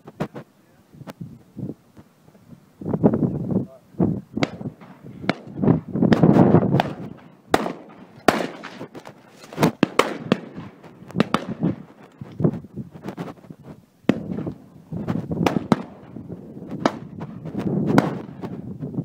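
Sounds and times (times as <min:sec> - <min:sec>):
sharp cracks and pops: 0:00.0 - 0:01.2, 0:04.4 - 0:18.7
low rumbling gust: 0:00.8 - 0:19.0.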